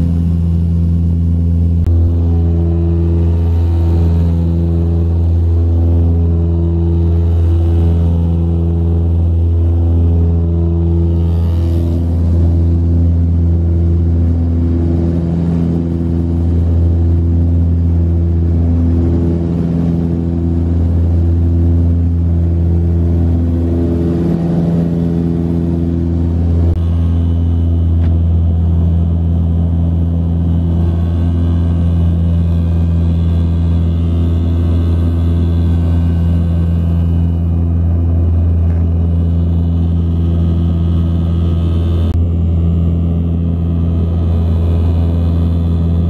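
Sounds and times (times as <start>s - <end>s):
turboprop cabin drone: 0.0s - 46.0s.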